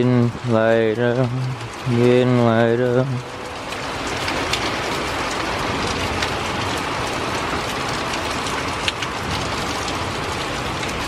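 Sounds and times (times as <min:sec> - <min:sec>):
close raindrops ticking: 0:00.0 - 0:11.0
steady rain hiss: 0:00.0 - 0:11.0.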